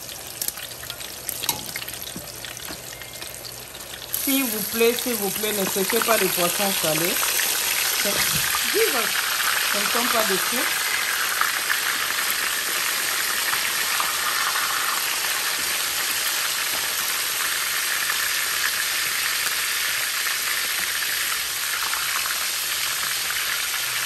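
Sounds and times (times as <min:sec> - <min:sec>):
fish frying in hot oil: 0:00.0 - 0:24.0.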